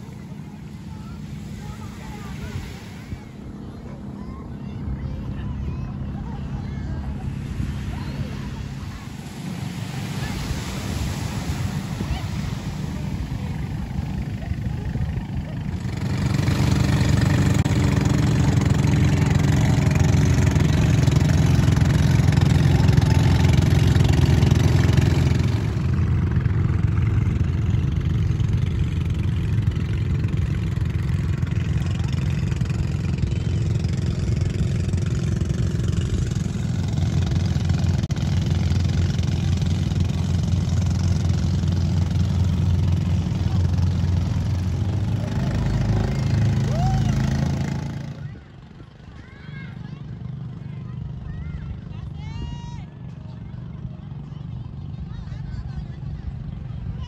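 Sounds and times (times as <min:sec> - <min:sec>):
small engine running: 0:00.0 - 0:52.4.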